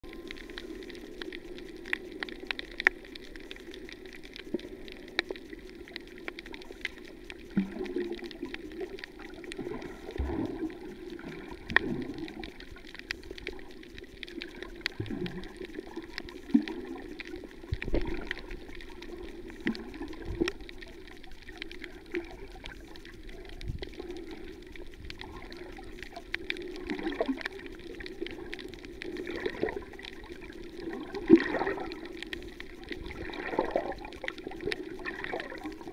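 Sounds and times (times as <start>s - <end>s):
muffled underwater wash: 0.0s - 35.9s
bubble gurgles: 0.1s - 35.9s
sharp underwater clicks: 0.1s - 35.9s.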